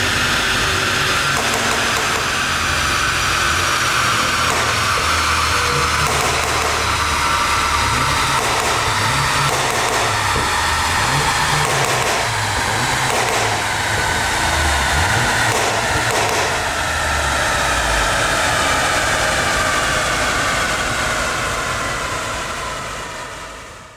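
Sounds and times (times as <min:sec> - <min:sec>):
car engine running on dyno: 0:00.0 - 0:23.9.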